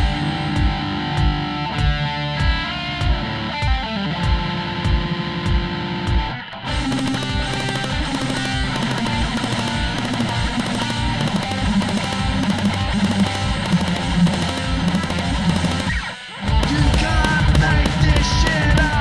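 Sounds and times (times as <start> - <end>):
guitar rock band: 0.0 - 19.0
steady drum beat: 0.0 - 19.0.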